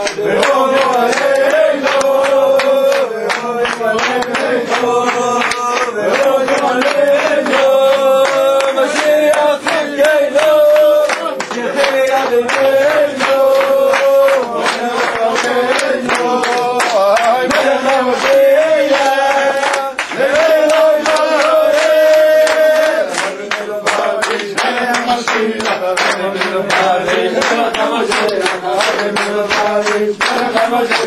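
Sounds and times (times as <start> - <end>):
hands clapping in time: 0.0 - 31.0
men singing together: 0.0 - 31.0.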